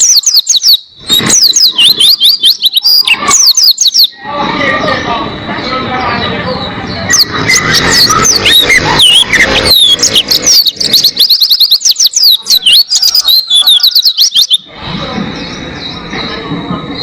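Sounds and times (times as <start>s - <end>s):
bird twittering song: 0.0s - 17.0s.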